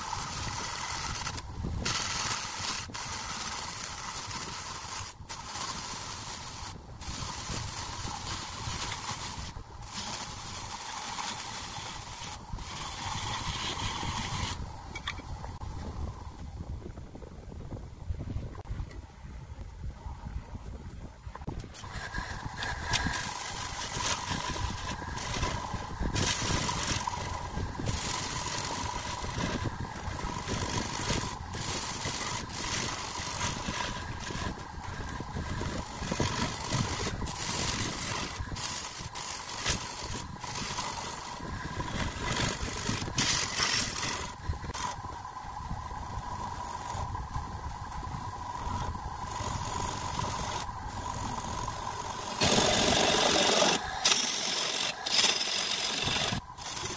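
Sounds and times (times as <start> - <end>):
wood lathe whining: 0.0 - 15.2, 21.8 - 45.2, 47.8 - 56.9
tool scraping spinning wood: 0.0 - 16.0, 21.4 - 56.9.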